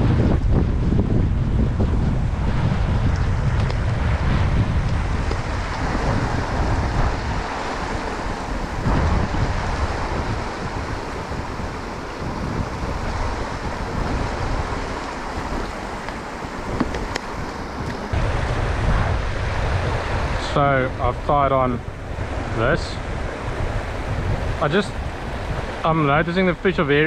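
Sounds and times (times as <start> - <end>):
wind buffeting microphone: 0.0 - 27.0
stream water flowing: 2.4 - 27.0.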